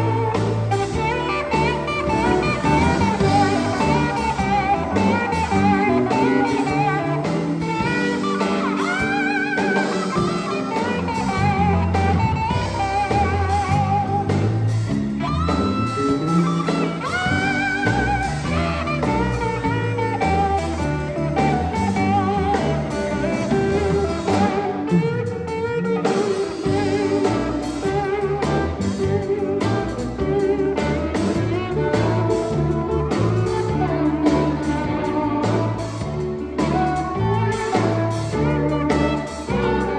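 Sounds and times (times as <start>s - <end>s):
electric steel guitar: 0.0s - 39.9s
gospel band playing: 0.0s - 39.9s.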